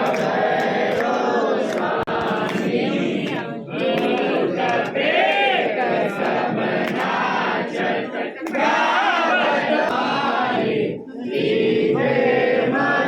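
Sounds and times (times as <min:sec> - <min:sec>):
voices chanting together: 0:00.0 - 0:13.0.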